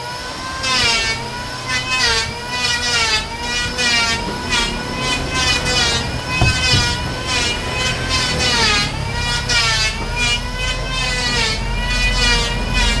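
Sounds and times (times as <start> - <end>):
power tool cutting wood: 0.0 - 13.0.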